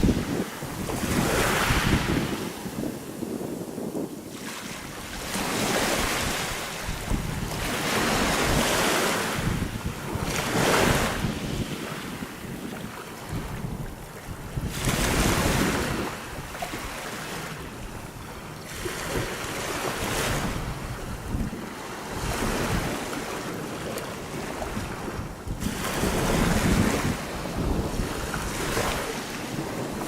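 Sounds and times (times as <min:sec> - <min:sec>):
waves washing over pebbles: 0:00.0 - 0:12.6, 0:13.3 - 0:30.0
wind rumble on microphone: 0:00.0 - 0:30.0.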